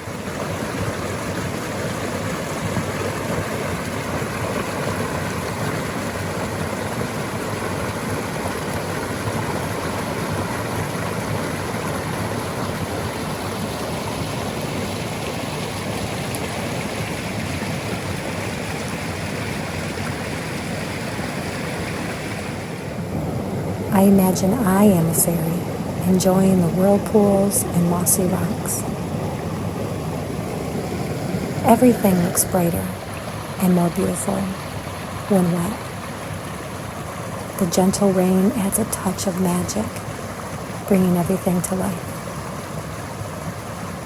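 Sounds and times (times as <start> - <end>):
creek rushing over rocks: 0.0 - 44.0.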